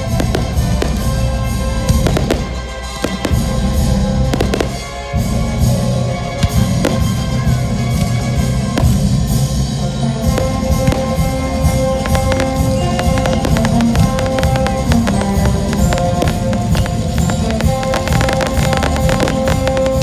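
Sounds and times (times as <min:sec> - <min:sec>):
fireworks cracking and popping: 0:00.0 - 0:05.8, 0:06.4 - 0:20.0
music with drums: 0:00.0 - 0:20.0.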